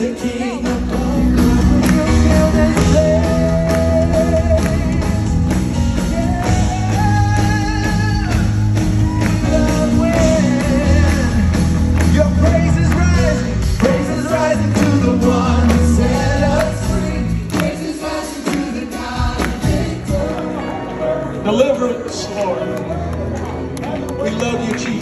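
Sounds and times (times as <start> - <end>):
steady drum beat: 0.0 - 20.3
bass: 0.0 - 21.1.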